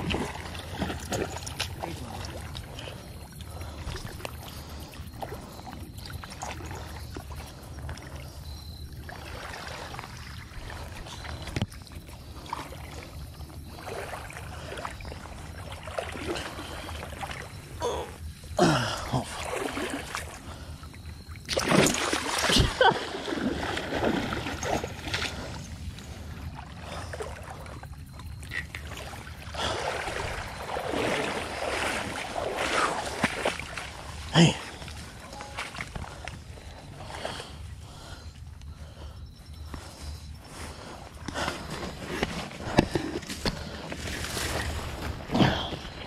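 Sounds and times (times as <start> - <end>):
water splashing and sloshing: 0.0 - 46.0.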